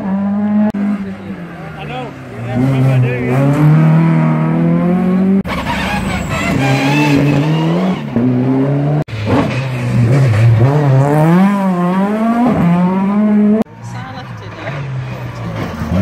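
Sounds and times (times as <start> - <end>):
rally car engines revving: 0.0 - 16.0.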